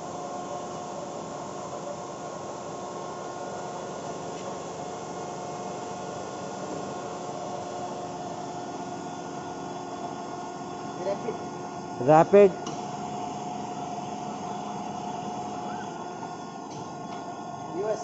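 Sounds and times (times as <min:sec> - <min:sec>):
boring machine humming and whining: 0:00.0 - 0:18.0.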